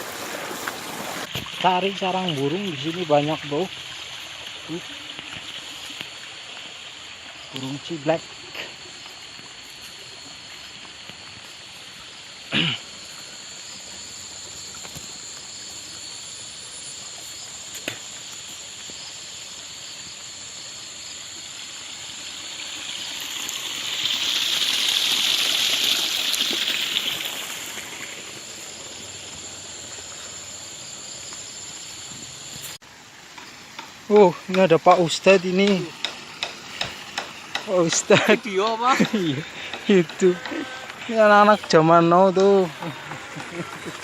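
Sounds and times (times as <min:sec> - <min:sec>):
high insect drone: 0:00.0 - 0:44.0.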